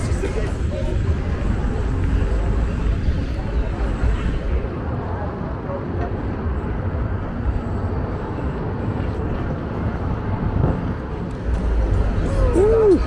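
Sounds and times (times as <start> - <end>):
low road rumble: 0.0 - 13.0
wind rush: 0.0 - 13.0.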